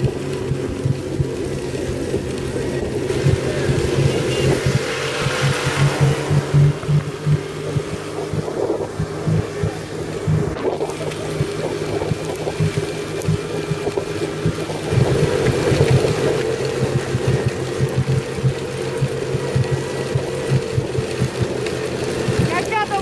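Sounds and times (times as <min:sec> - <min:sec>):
engine droning under load: 0:00.0 - 0:23.0.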